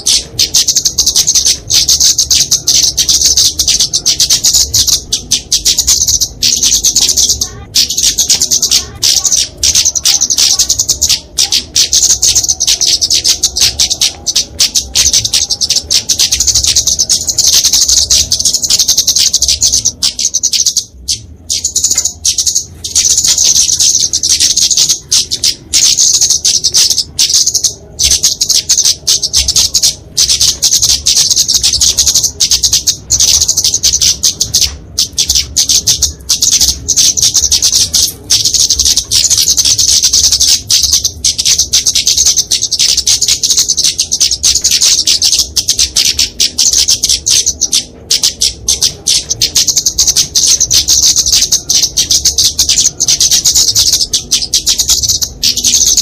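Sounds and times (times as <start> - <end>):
bird high-pitched chips: 0.0 - 56.0.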